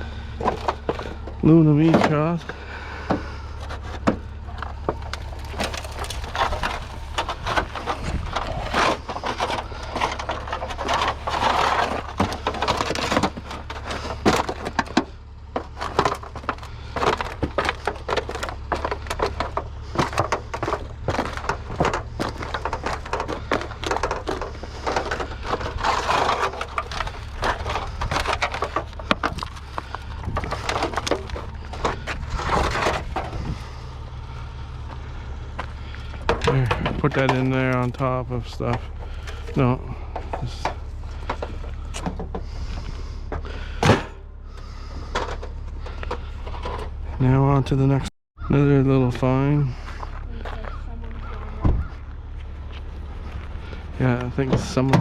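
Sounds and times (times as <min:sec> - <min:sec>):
items clattering and crunching: 0:00.0 - 0:55.0
steady low hum: 0:00.0 - 0:55.0.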